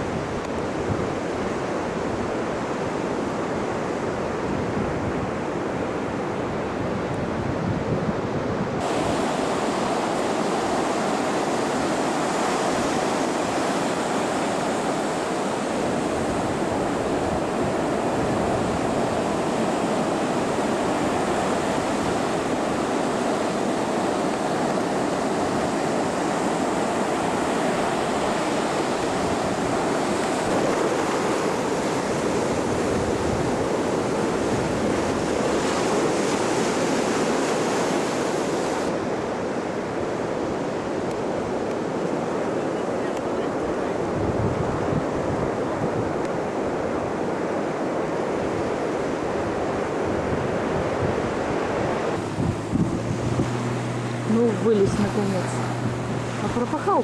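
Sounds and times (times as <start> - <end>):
ocean surf breaking: 0.0 - 57.0
wind buffeting microphone: 0.0 - 57.0.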